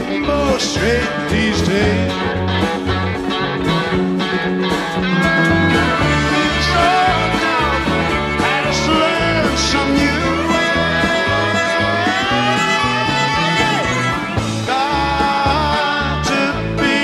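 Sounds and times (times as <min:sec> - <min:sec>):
bass guitar: 0:00.0 - 0:17.0
drums: 0:00.0 - 0:17.0
piano: 0:00.0 - 0:17.0
sliding lead melody: 0:00.0 - 0:17.0.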